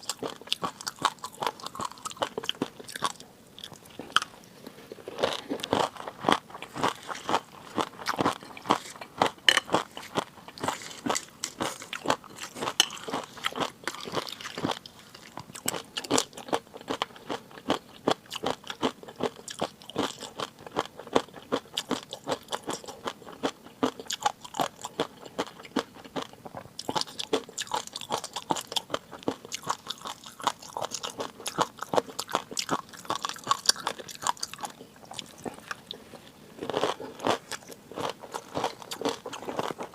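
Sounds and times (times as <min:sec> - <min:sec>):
person chewing and crunching: 0:00.0 - 0:39.9.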